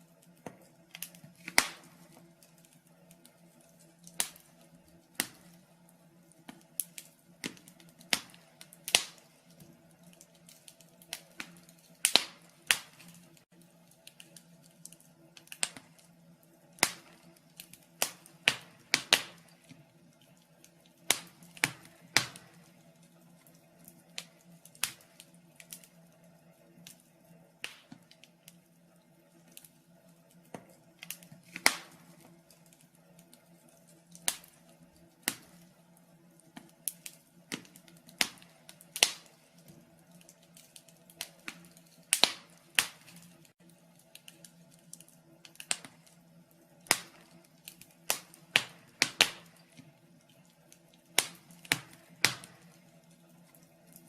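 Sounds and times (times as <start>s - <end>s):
fireplace wood fire crackling: 0.0s - 54.0s.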